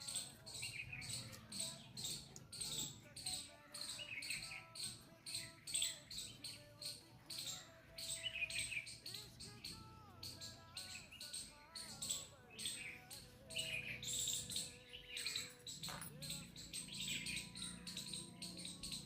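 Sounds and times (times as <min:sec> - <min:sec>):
birds chirping chorus: 0:00.0 - 0:19.0.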